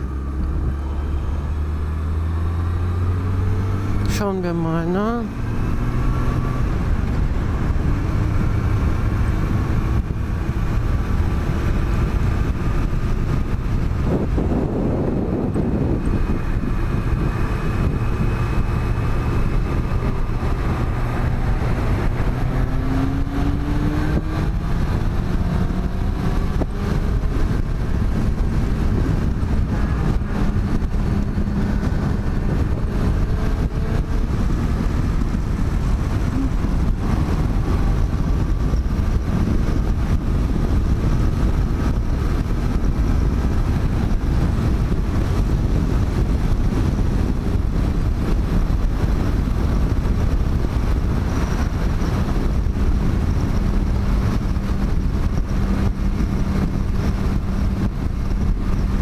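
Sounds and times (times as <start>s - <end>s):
motorcycle engine: 0.0s - 59.0s
wind noise on microphone: 0.0s - 59.0s.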